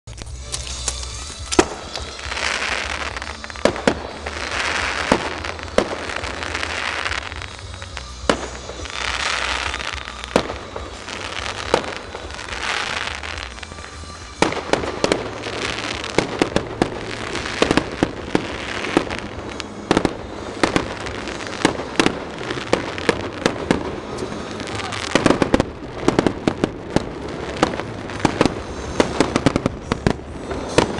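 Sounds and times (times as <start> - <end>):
firework bangs: 0.1 - 30.9
rapid firework cracks: 0.1 - 30.9
firework hissing rushes: 0.2 - 30.9.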